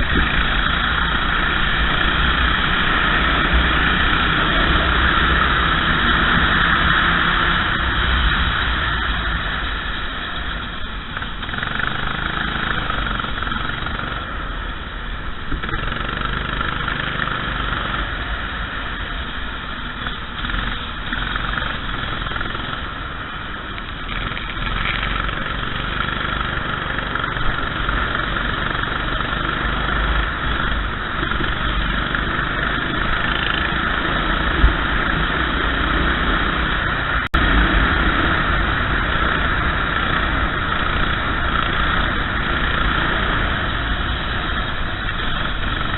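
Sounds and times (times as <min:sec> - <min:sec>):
racing kart engine running: 0:00.0 - 0:45.9
wind and rain noise: 0:00.0 - 0:45.9.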